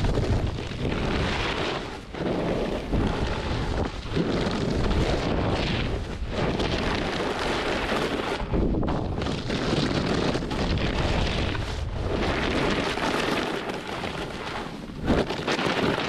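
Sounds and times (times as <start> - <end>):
snowboard edges carving snow: 0.0 - 16.0
wind buffeting microphone: 0.0 - 16.0.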